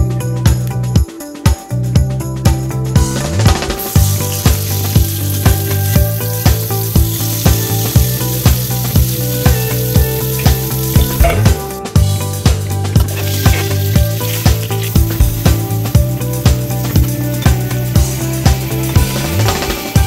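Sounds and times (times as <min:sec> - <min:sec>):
background music with beat: 0:00.0 - 0:20.0
vegetables sizzling in hot oil: 0:03.8 - 0:20.0.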